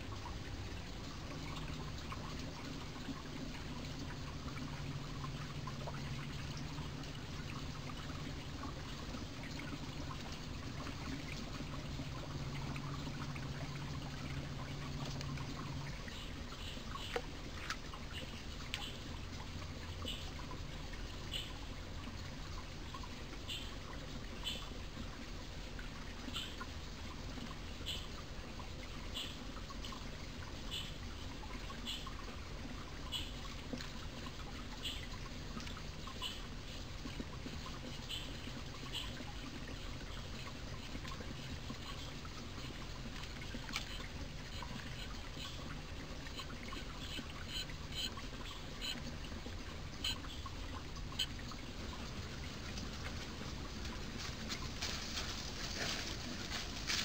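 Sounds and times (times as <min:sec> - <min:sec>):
stream flowing and trickling: 0:00.0 - 0:57.0.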